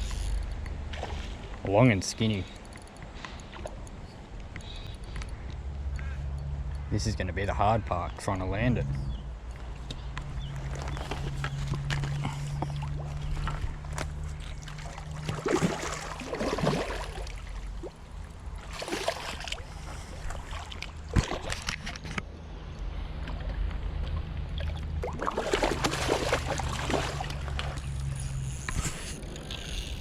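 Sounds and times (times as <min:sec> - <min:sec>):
water splashing and sloshing: 0:00.0 - 0:06.7, 0:09.3 - 0:29.5
low steady hum: 0:00.0 - 0:30.0.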